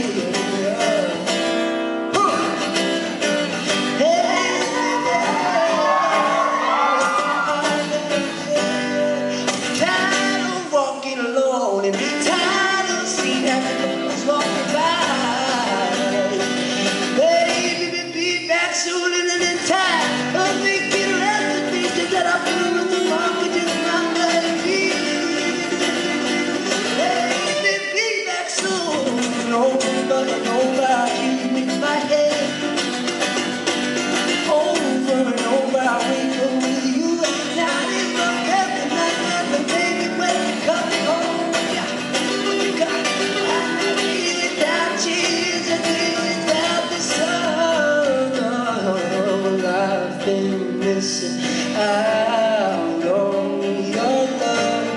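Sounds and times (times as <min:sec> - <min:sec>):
acoustic guitars: 0:00.0 - 0:54.9
man singing: 0:00.0 - 0:54.9.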